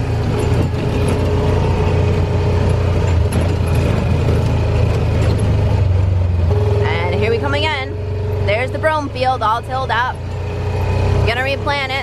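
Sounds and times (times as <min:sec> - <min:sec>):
utility vehicle engine drone: 0:00.0 - 0:12.0.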